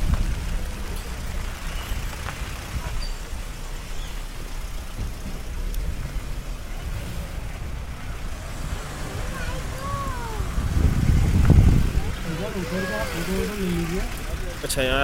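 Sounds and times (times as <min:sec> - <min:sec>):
vehicle engine and tyre rumble: 0:00.0 - 0:15.0.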